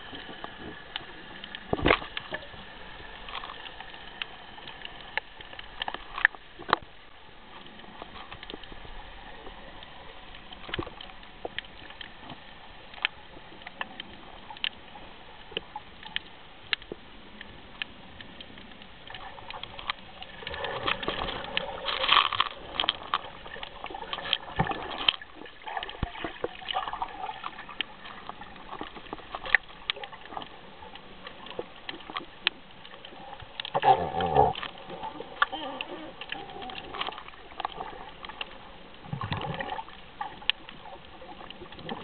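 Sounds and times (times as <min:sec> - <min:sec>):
water sloshing and splashing: 0:00.0 - 0:42.0.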